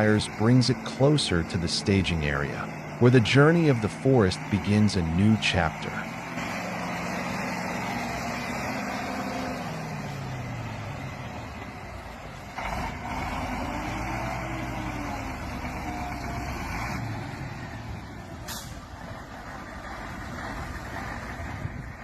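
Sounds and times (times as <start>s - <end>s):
truck engine under load: 0.0s - 22.0s.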